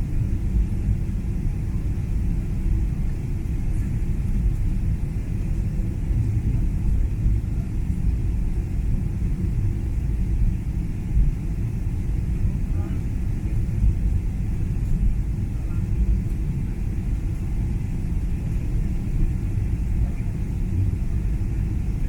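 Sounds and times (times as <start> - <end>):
jet cabin engine rumble: 0.0 - 22.0.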